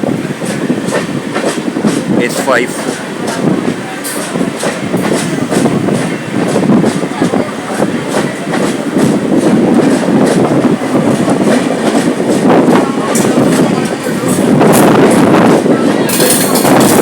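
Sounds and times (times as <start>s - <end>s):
train rumbling past: 0.0s - 17.0s
wheels clattering over rail joints: 0.0s - 17.0s.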